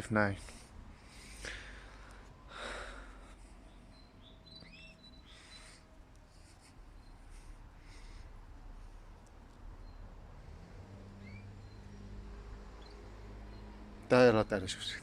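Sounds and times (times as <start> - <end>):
small caged birds chirping: 0.0 - 15.0.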